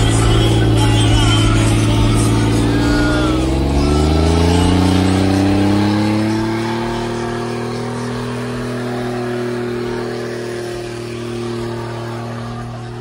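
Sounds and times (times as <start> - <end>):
car engine at high revs: 0.0 - 13.0
tyre and exhaust noise: 0.0 - 13.0.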